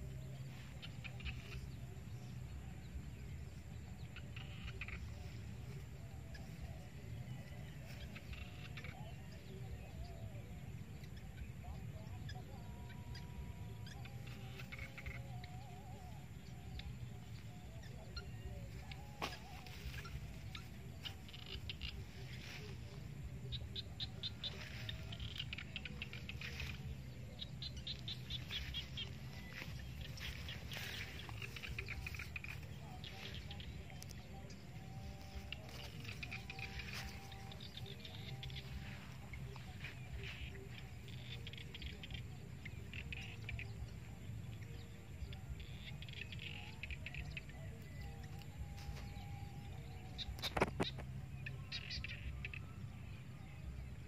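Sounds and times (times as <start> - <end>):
low rumble: 0.0 - 45.9
small animals chirping: 4.0 - 52.8.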